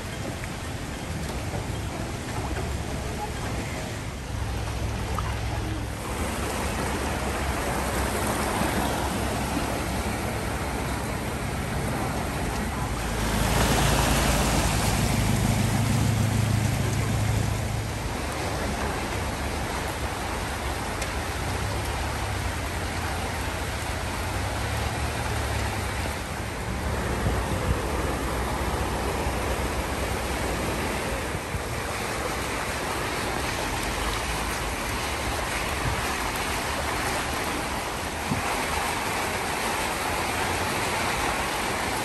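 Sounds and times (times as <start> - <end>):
floodwater washing and sloshing: 0.0 - 42.0
truck driving through water: 0.0 - 42.0
vehicle engines humming: 0.0 - 42.0.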